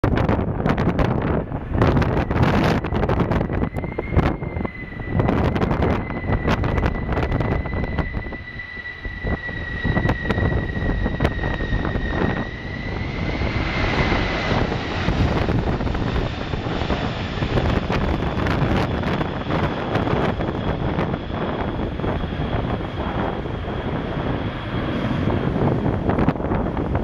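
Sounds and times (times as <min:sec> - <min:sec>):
jet engines whining overhead: 0:00.0 - 0:27.0
wind buffeting microphone: 0:00.0 - 0:27.0.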